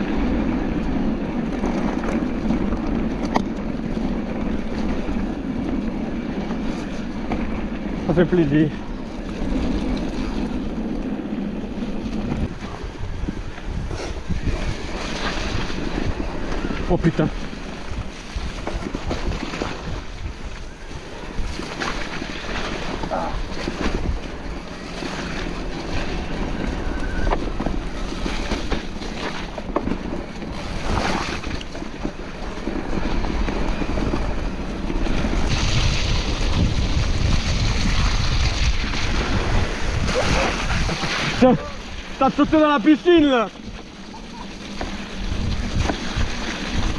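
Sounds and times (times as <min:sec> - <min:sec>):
wind rushing over microphone: 0:00.0 - 0:46.9
bike knocks and rattles: 0:00.2 - 0:16.7, 0:17.4 - 0:41.5, 0:43.6 - 0:46.9.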